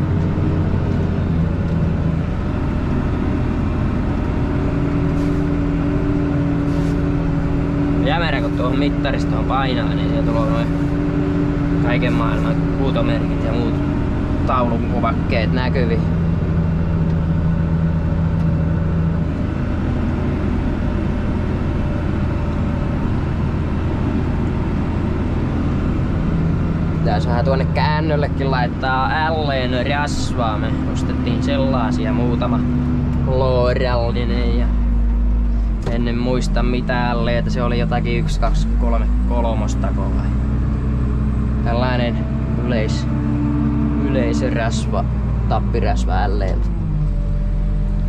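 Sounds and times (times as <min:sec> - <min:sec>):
tractor engine humming: 0:00.0 - 0:48.0.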